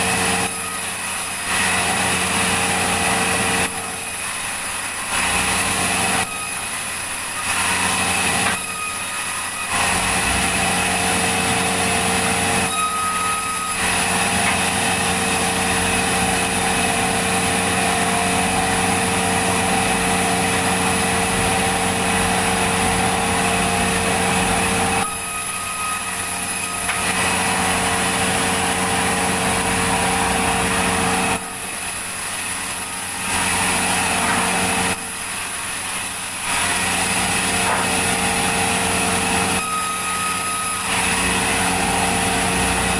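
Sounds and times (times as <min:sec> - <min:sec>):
saw cutting through log: 0:00.0 - 0:42.9.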